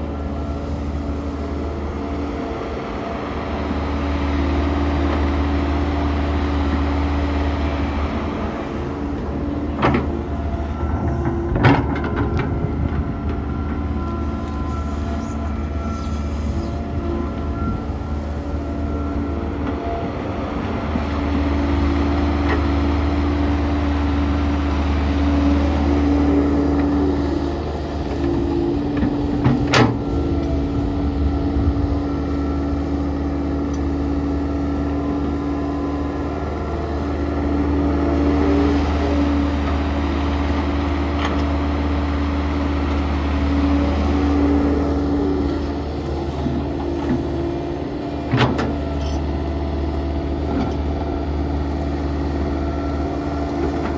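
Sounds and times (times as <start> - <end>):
excavator diesel engine: 0.0 - 53.9.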